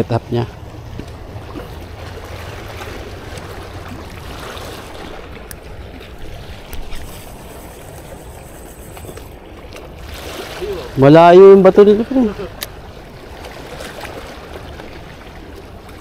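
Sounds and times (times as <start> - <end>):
sea water washing at shoreline: 0.0 - 16.0.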